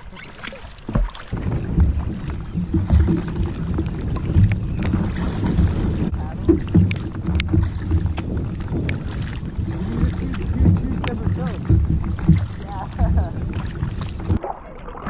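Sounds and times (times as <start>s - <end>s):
drips and knocks: 0.0s - 15.0s
paddle blades splashing: 0.0s - 15.0s
wind on microphone: 1.3s - 14.4s.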